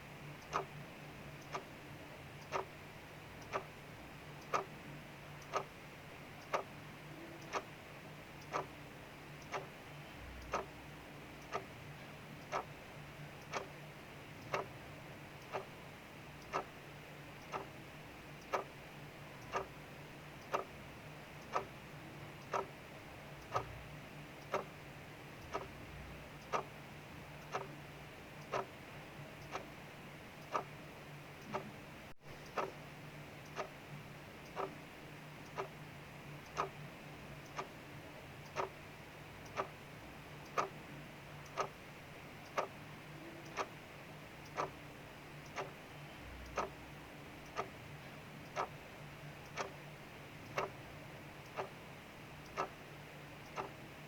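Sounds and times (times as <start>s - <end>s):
mechanical clock ticking: 0.2s - 31.8s, 32.4s - 54.0s.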